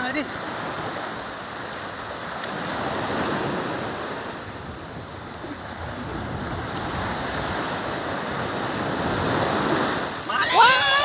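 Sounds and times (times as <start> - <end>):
sea surf washing onto beach: 0.0 - 11.0
wind rumbling on microphone: 0.0 - 11.0.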